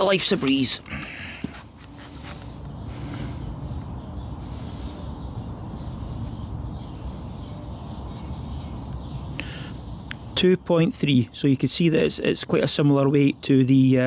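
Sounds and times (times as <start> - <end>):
bird chirp: 0.0 - 14.0.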